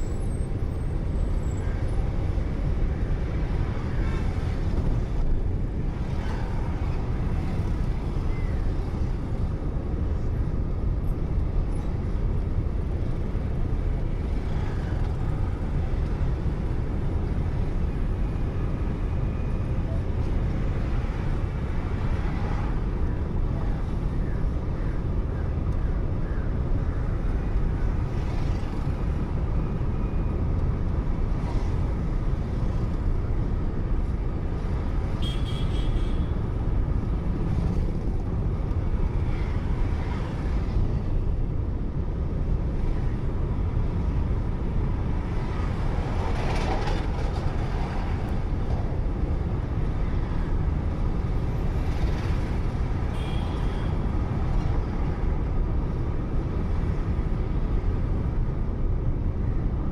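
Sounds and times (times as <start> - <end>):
car road and engine noise: 0.0 - 59.9
passing traffic: 0.0 - 59.9.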